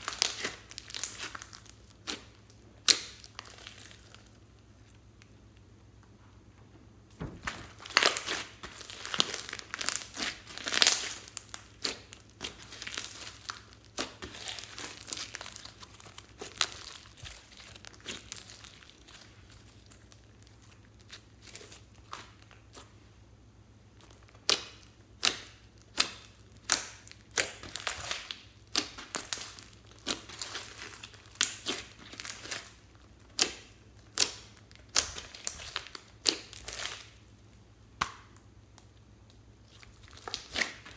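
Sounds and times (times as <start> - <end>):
slime crackling and popping: 0.0 - 5.7, 7.4 - 22.9, 23.9 - 40.9.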